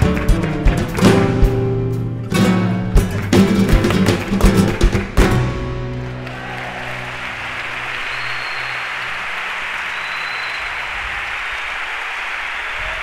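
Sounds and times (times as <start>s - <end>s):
audience applauding: 0.0s - 1.4s, 3.0s - 13.0s.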